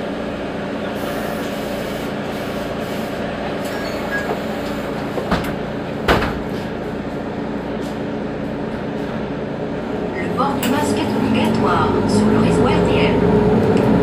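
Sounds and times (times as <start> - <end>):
bus engine humming: 0.0 - 14.0.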